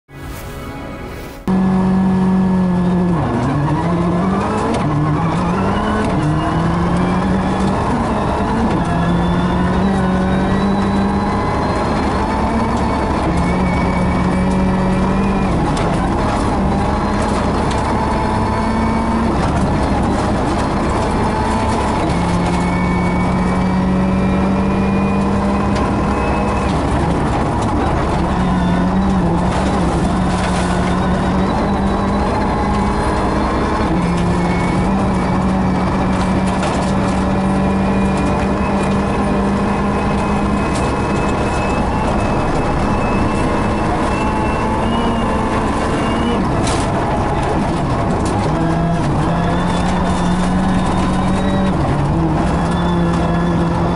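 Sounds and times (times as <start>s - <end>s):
steady engine noise with whine: 0.1s - 53.9s.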